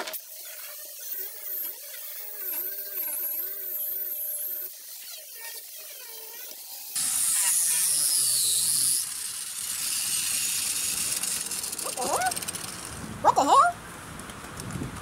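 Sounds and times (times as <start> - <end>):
power tool whine: 0.0 - 13.0.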